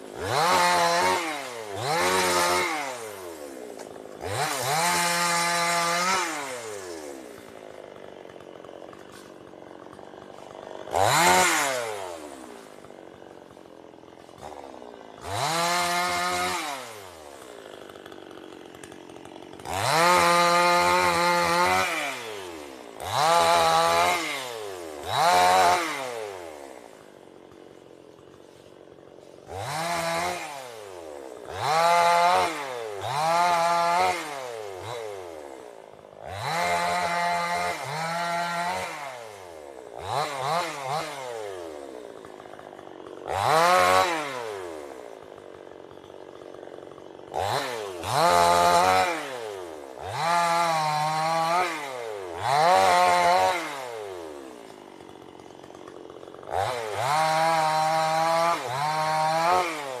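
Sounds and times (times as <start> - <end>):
chainsaw engine revving: 0.0 - 60.0.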